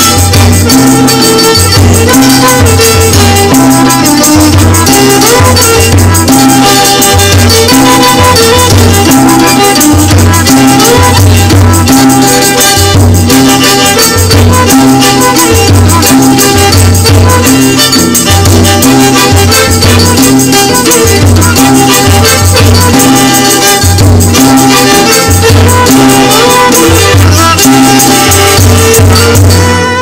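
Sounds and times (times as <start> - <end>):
rattling shaker: 0.0 - 29.8
music with repeating bass beat: 0.0 - 30.0.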